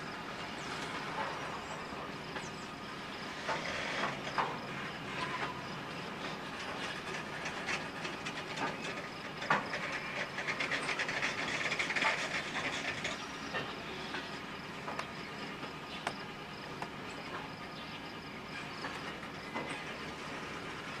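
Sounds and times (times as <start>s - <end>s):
freight train rolling: 0.0s - 21.0s
wheels clicking over rail joints: 0.0s - 21.0s.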